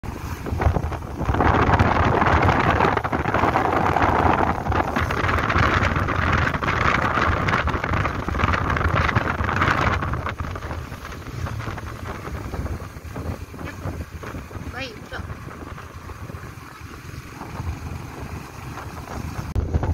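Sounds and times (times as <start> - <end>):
motorcycle engine and road rumble: 0.0 - 19.9
wind buffeting microphone: 0.0 - 19.9.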